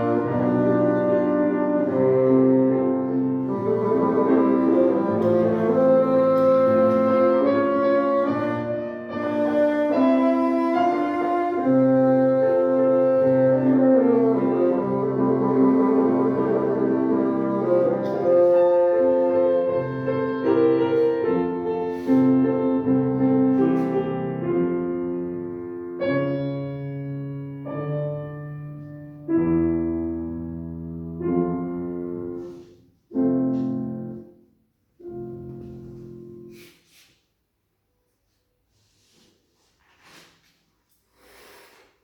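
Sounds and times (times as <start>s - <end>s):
piano chords: 0.0s - 36.7s.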